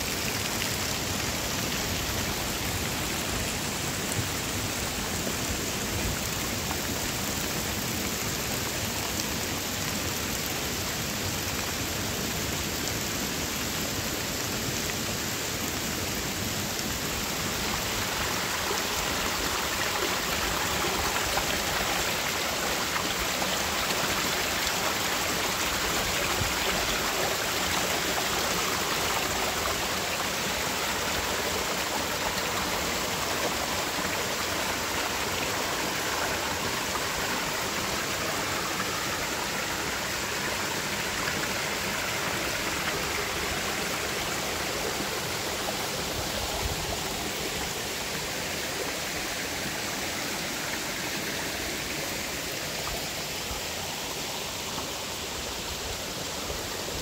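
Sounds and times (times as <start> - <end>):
water rushing down small waterfalls: 0.0 - 57.0.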